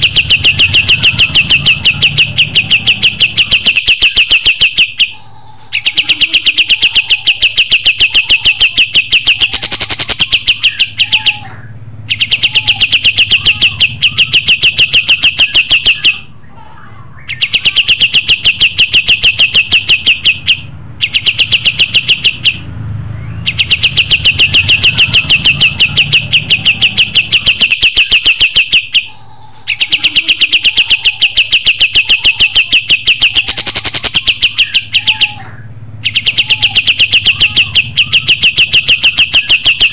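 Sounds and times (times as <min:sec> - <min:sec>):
bird trilling song: 0:00.0 - 0:39.9.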